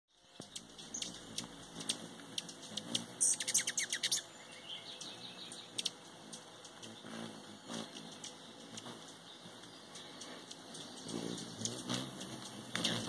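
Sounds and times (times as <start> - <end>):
hummingbirds chipping: 0.1 - 13.0.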